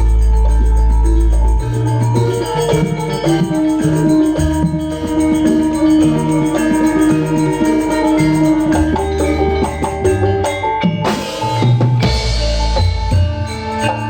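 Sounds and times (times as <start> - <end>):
music through sound system: 0.0 - 14.0.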